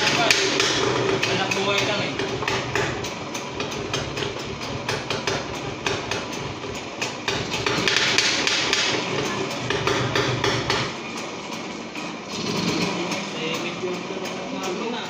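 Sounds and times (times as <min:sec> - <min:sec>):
steady low hum: 0:00.0 - 0:14.4
metallic tapping on engine: 0:00.0 - 0:15.0.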